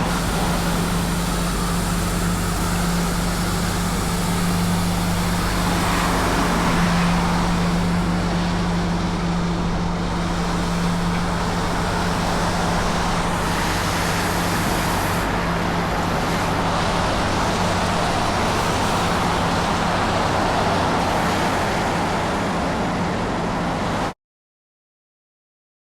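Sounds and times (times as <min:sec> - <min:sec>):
street sweeper droning: 0:00.0 - 0:24.2.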